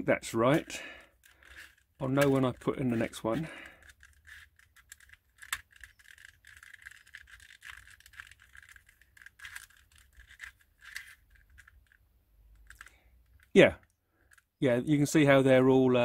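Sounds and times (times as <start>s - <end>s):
puzzle pieces clicking and rattling: 0.4s - 14.6s.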